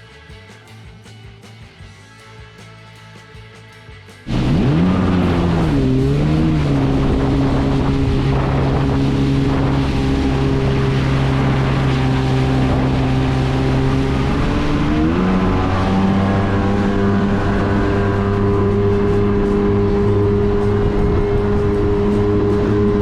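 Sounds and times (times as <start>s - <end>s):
jet ski engine at speed: 4.2s - 23.0s.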